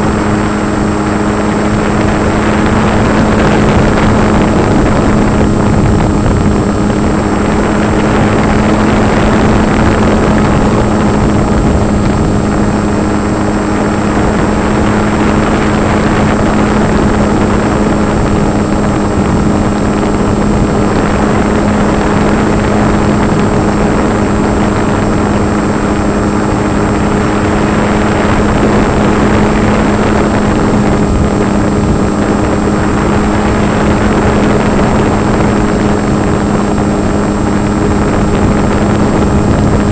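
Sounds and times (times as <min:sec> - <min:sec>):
model plane motor drone: 0:00.0 - 0:39.9
wind noise on microphone: 0:00.0 - 0:39.9.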